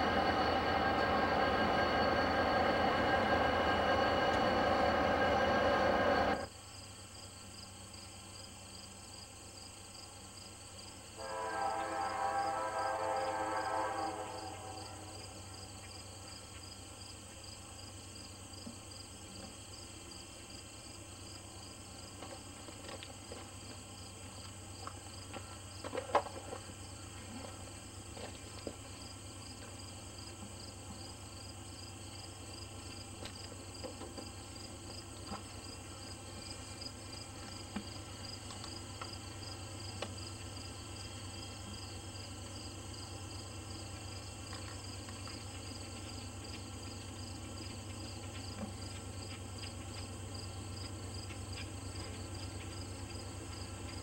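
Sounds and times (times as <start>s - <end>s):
freight train rumble: 0.0s - 6.6s, 11.1s - 54.0s
crickets chirping: 0.0s - 54.0s.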